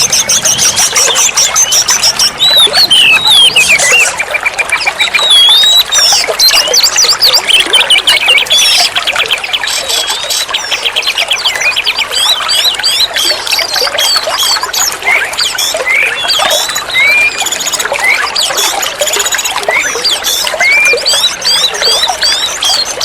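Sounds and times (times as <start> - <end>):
bird singing whistles and chirps: 0.0 - 23.0
trickling water: 0.0 - 23.0.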